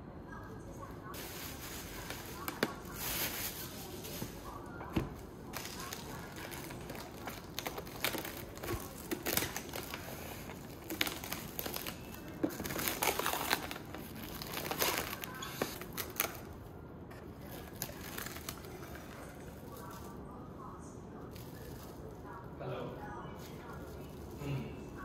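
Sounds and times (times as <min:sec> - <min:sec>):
cling film crinkling: 0:01.0 - 0:04.7, 0:05.5 - 0:22.5, 0:23.2 - 0:25.0.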